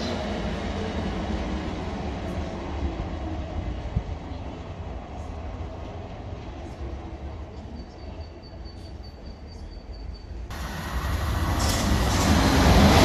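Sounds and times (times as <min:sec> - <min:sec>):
train wheel-on-rail rumble: 0:00.0 - 0:13.0.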